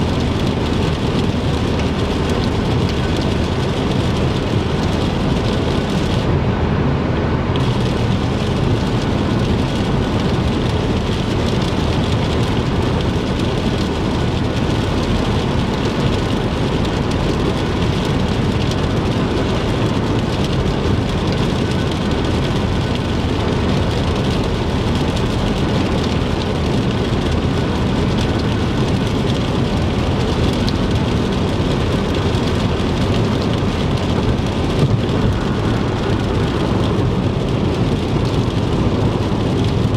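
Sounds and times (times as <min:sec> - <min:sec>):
low road drone: 0:00.0 - 0:39.9
rain on car: 0:00.0 - 0:39.9
tyres on wet road: 0:00.0 - 0:39.9.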